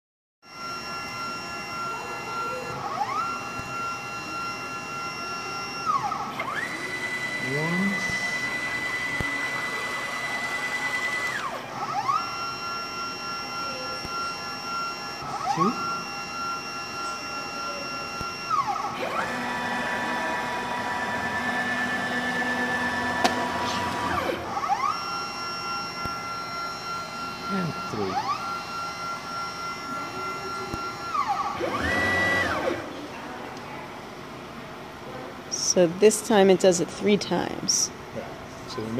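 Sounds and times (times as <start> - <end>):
stepper motors whining: 0.5 - 32.9
steady machine whir: 0.5 - 33.8.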